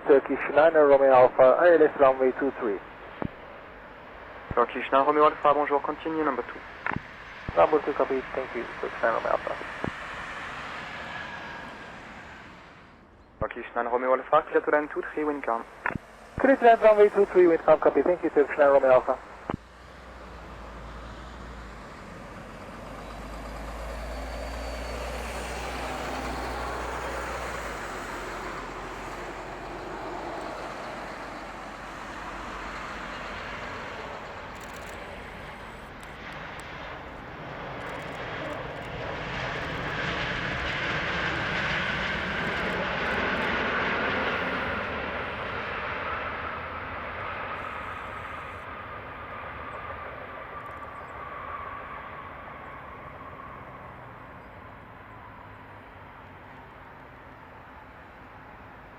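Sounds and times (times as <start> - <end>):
jet engine rumble and rush: 0.0 - 19.6, 20.2 - 53.7.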